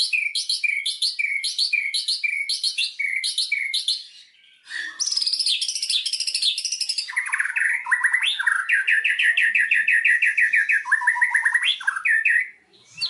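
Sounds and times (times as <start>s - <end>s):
songbird singing with trills: 0.0s - 13.0s.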